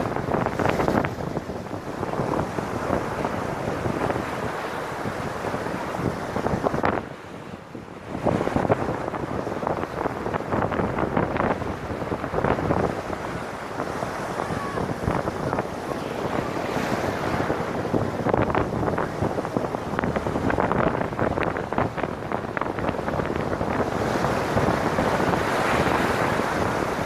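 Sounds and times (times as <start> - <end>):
surf breaking over rocks: 0.0 - 27.0
wind buffeting microphone: 0.0 - 27.0.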